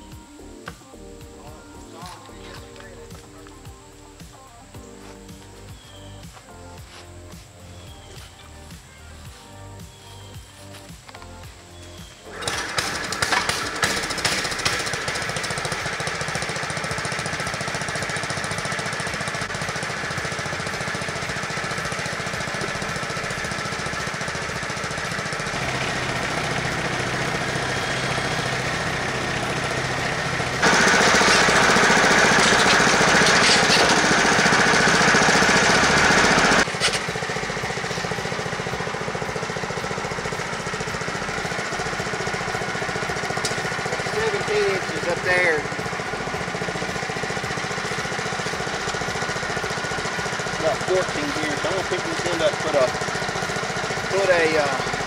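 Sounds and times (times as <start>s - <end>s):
small gasoline engine running: 5.6s - 55.0s.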